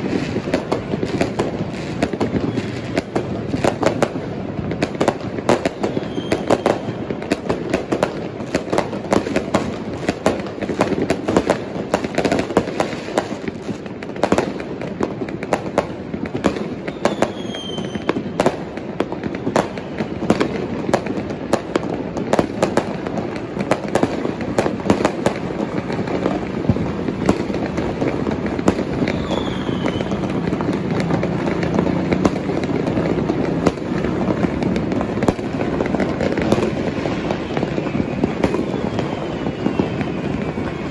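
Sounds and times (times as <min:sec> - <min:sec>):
falling firework whistle: 0:00.0 - 0:04.2, 0:04.8 - 0:13.2, 0:15.4 - 0:20.5, 0:22.2 - 0:40.9
firecrackers crackling and banging: 0:00.0 - 0:40.9.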